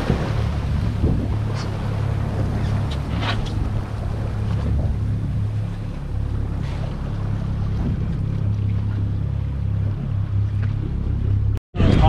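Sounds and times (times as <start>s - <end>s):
boat engine humming: 0.0s - 11.6s
water noise: 0.0s - 12.0s
wind: 0.0s - 12.0s.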